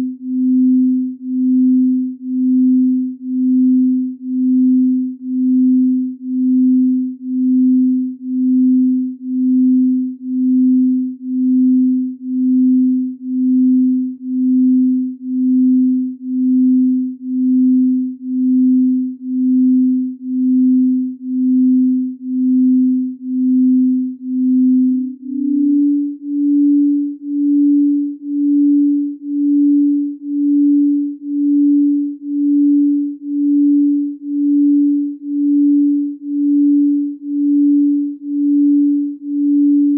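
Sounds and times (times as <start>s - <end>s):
pulsing electronic sine tone: 0.0s - 39.9s.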